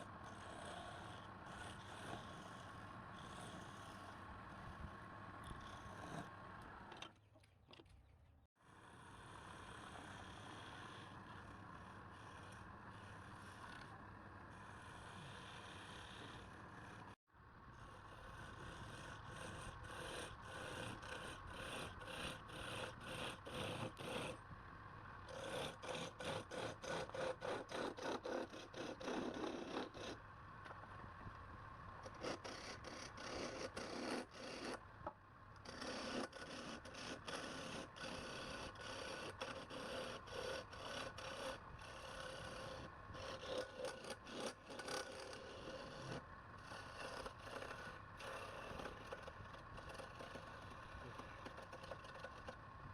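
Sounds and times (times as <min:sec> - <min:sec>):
wood rasping strokes: 0:00.0 - 0:07.0, 0:09.0 - 0:17.2, 0:17.8 - 0:24.4, 0:25.3 - 0:30.2, 0:32.0 - 0:34.8, 0:35.6 - 0:52.6.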